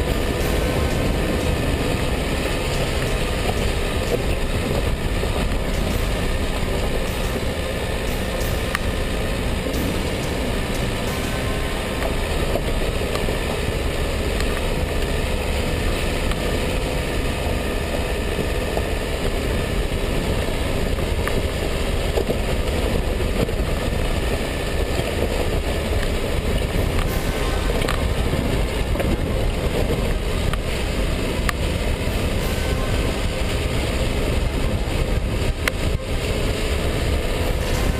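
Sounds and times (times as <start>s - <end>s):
diesel car engine running: 0.0s - 37.9s.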